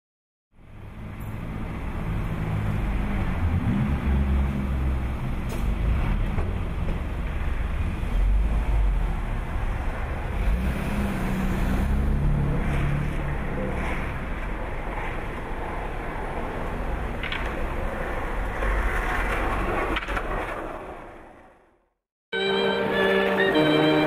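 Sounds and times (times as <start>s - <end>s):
car engines rumbling: 0.6s - 21.3s.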